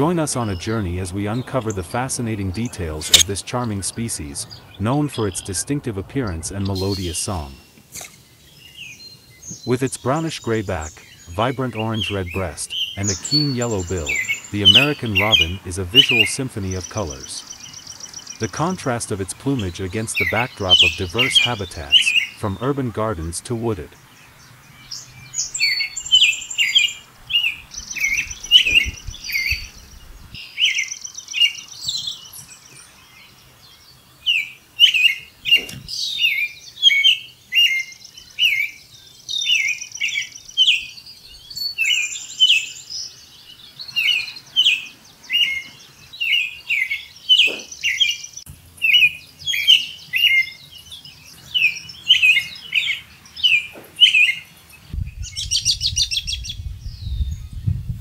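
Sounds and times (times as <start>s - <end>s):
robin singing whistled phrases: 0.0s - 58.0s.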